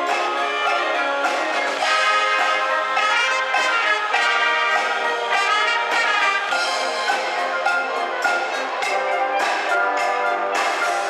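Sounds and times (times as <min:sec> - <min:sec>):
wind band playing chords: 0:00.0 - 0:11.0.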